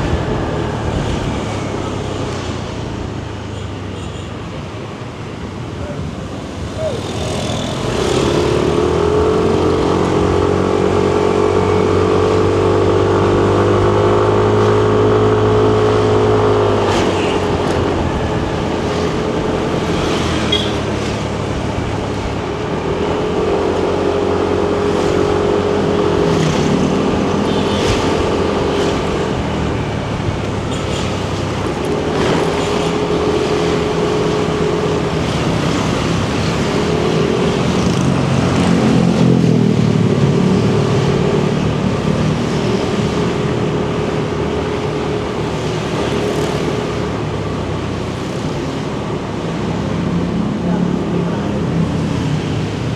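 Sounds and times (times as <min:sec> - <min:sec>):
road and wind noise: 0:00.0 - 0:52.9.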